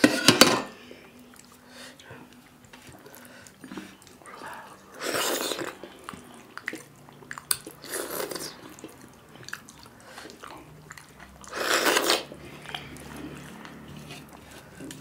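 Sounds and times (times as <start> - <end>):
wet chewing: 1.1 - 15.0
squelchy eating sounds: 1.2 - 15.0.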